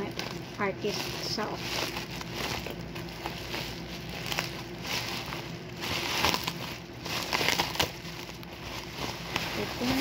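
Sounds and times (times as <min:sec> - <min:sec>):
bubble wrap crinkling and crackling: 0:00.0 - 0:10.0.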